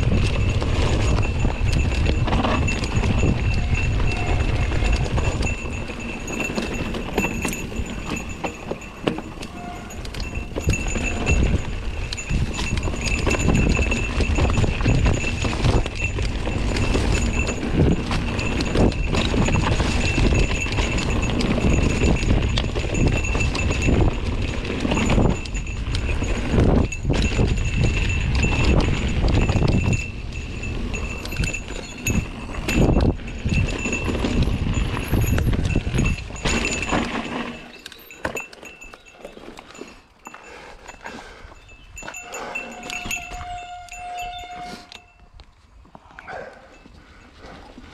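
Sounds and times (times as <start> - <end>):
bike rattling over roots: 0.0 - 42.2.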